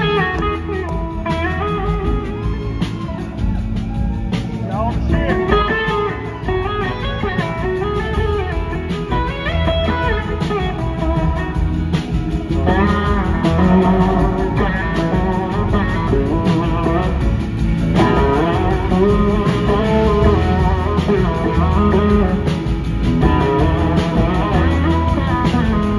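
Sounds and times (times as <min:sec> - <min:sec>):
blues-rock band playing live: 0:00.0 - 0:25.9
electric guitar lead: 0:00.0 - 0:25.9.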